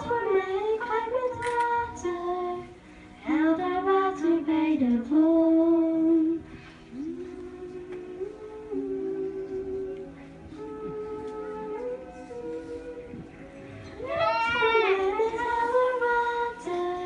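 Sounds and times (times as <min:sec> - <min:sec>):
girl singing into microphone: 0:00.0 - 0:17.0.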